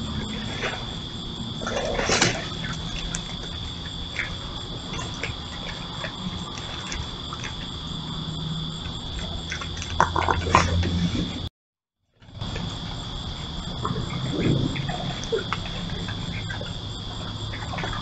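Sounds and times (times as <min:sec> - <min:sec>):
high insect drone: 0:00.0 - 0:11.5, 0:12.2 - 0:18.0.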